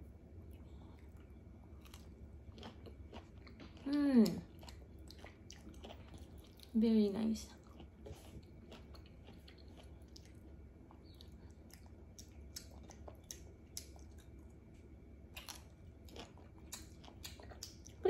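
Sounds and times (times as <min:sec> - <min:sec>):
low steady hum: 0:00.0 - 0:18.0
chewing fruit: 0:00.4 - 0:18.0.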